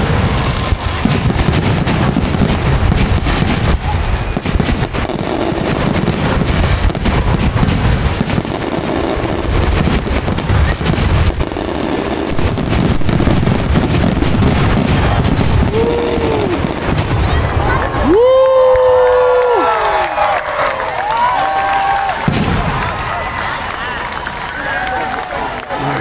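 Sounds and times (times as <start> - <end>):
fireworks booming: 0.0 - 20.1, 21.8 - 24.2.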